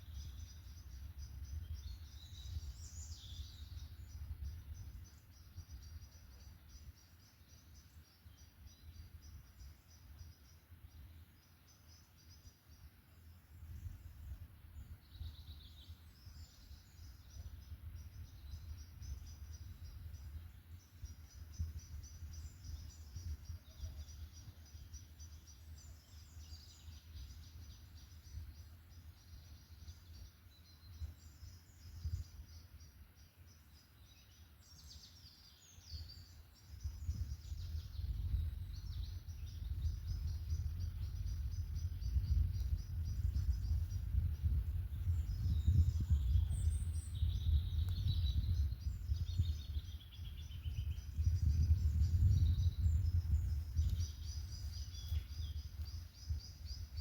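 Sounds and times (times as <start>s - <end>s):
forest birds singing: 0.0s - 57.0s.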